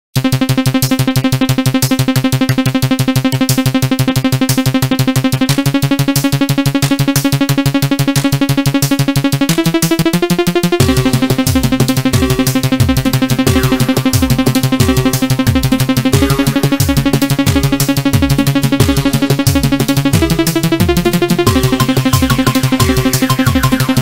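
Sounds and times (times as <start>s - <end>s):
deep bass line: 0.2s - 24.0s
pulsing synthesizer music: 0.2s - 24.0s.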